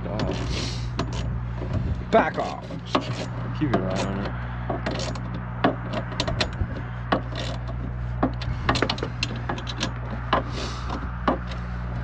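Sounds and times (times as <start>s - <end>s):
tool clicking and scraping on metal: 0.0s - 11.7s
steady low hum: 0.0s - 12.0s.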